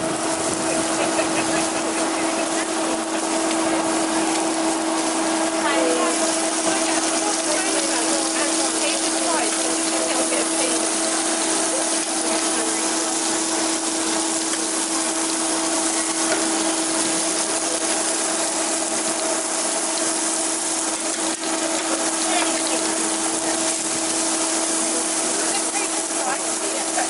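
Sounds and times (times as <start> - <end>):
faint voices: 0.0 - 19.5, 21.0 - 27.0
constant low hum: 0.0 - 27.0
steady hiss: 0.0 - 27.0.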